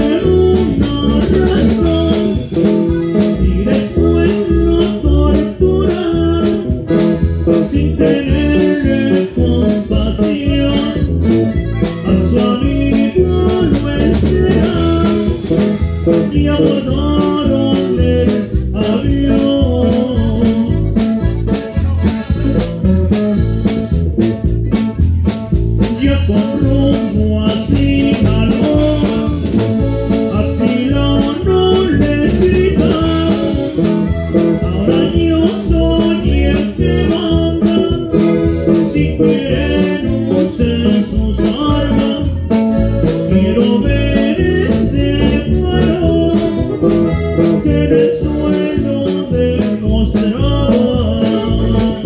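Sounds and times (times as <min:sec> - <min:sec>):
accordion melody: 0:00.0 - 0:52.0
live band playing: 0:00.0 - 0:52.0.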